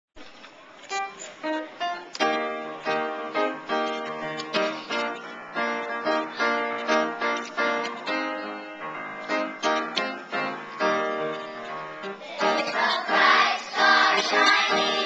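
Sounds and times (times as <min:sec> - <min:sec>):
upright piano chords: 0:00.9 - 0:15.0.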